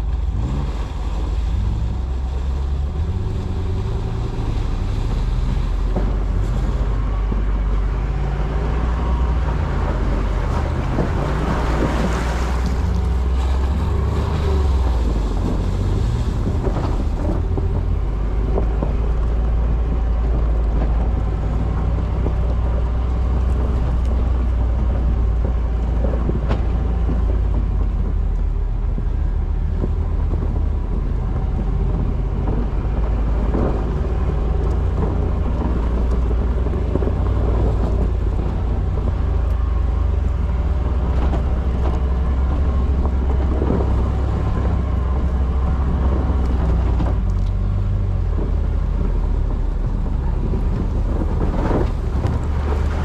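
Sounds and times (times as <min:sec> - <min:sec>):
car engine and exhaust rumbling: 0:00.0 - 0:53.0.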